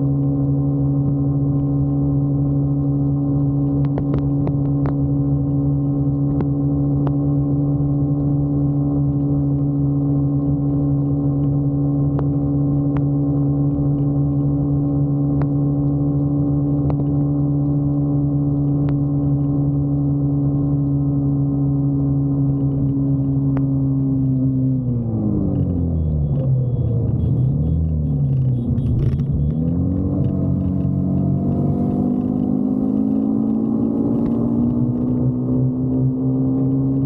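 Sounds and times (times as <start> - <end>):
motorcycle engine humming: 0.0 - 37.0.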